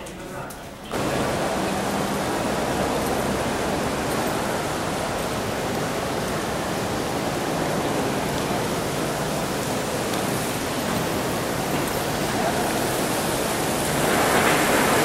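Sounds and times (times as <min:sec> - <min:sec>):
fountain water falling: 0:00.9 - 0:15.0.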